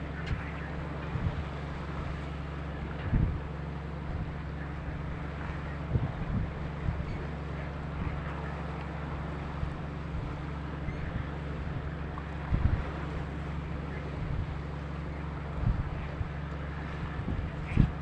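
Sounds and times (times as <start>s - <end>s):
boat engine drone: 0.0s - 18.0s
wind buffeting microphone: 0.0s - 18.0s.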